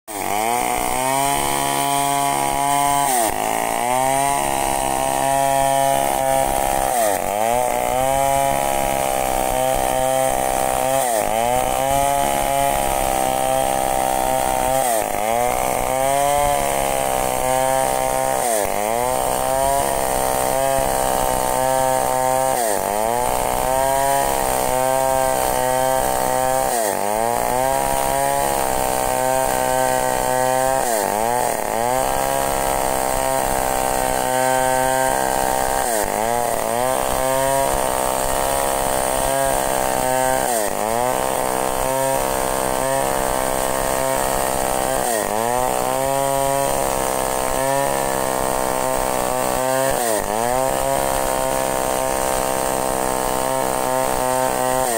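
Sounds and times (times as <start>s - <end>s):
chainsaw cutting a log: 0.0s - 54.9s.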